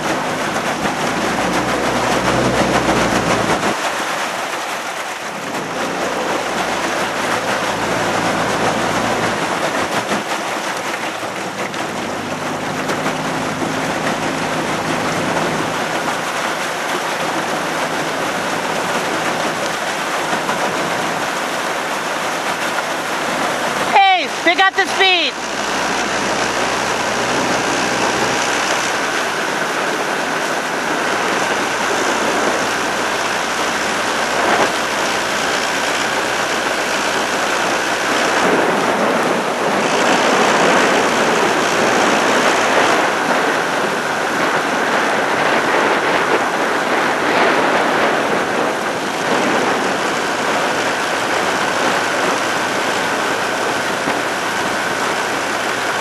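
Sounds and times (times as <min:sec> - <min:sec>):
boat motor whine: 0:00.0 - 0:56.0
wind and water rushing: 0:00.0 - 0:56.0.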